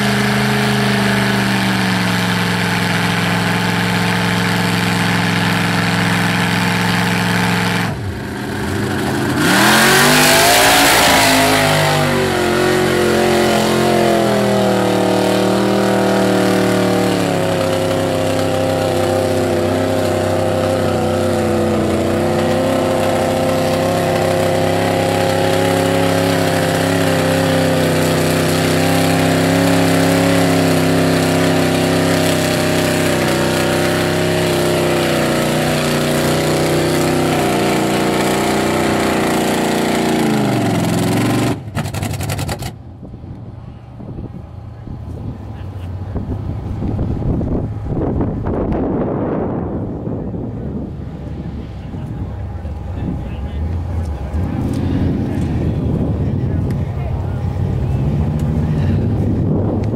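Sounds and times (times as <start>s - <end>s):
truck engine revving: 0.0s - 43.6s, 44.2s - 59.9s.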